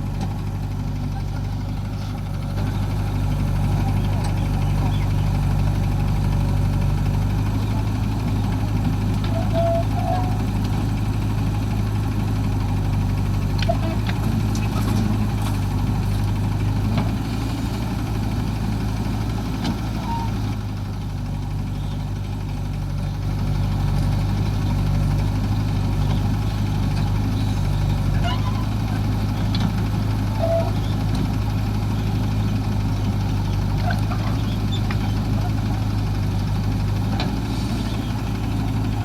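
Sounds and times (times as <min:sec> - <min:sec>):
diesel engine running steadily: 0:00.0 - 0:39.0.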